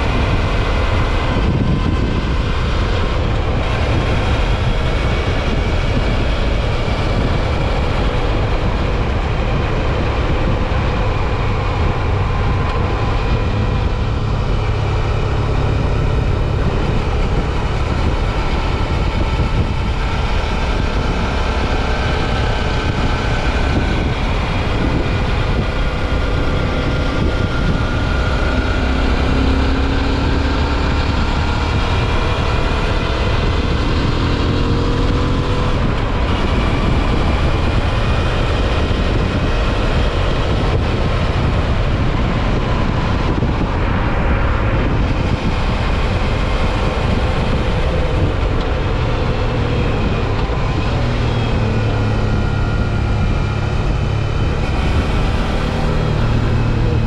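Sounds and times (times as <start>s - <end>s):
motorcycle engine running: 0.0s - 57.0s
wind rushing: 0.0s - 57.0s.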